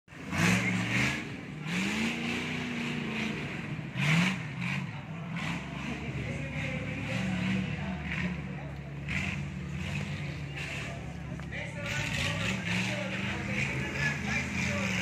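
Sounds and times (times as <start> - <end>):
truck engine revving hard: 0.1 - 15.0.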